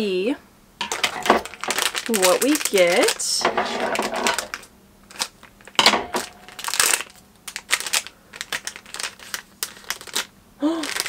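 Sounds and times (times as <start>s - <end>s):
foil crinkling: 0.8s - 11.0s
scissors cutting foil packet: 0.9s - 11.0s.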